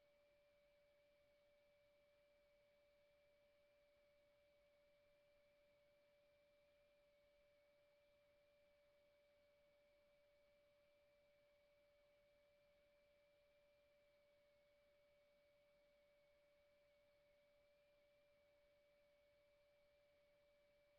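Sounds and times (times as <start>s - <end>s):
faint steady tone: 0.0s - 20.9s.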